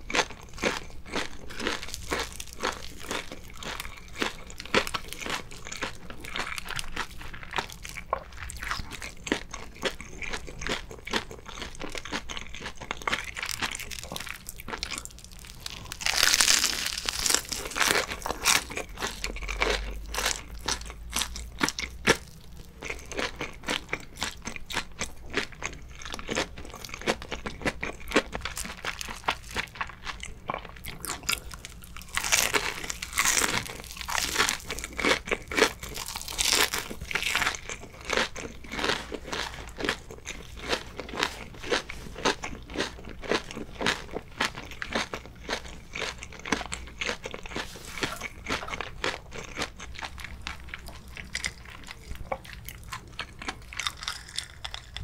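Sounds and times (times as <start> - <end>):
crunchy biting and chewing: 0.0 - 55.0.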